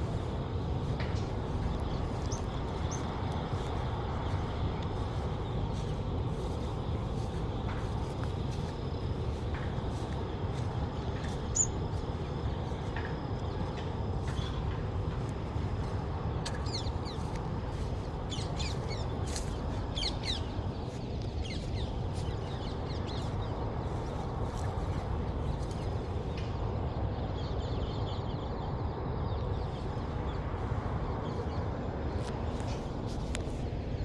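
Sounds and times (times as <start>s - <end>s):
wind noise on microphone: 0.0s - 27.4s
birds chirping: 0.0s - 34.0s.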